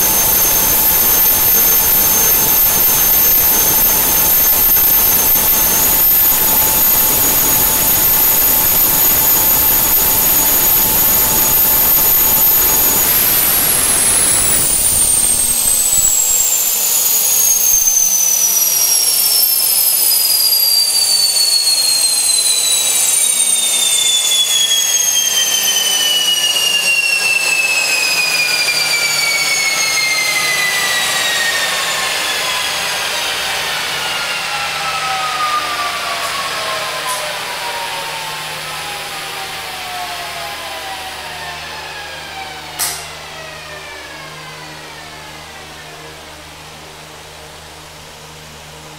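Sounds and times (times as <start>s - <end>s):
gas turbine high whine: 0.0s - 48.9s
rushing exhaust: 0.0s - 48.9s.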